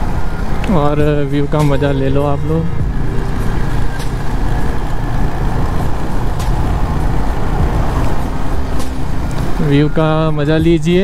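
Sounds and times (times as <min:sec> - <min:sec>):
motorcycle engine running: 0:00.0 - 0:10.8
wind rushing on microphone: 0:00.0 - 0:11.0.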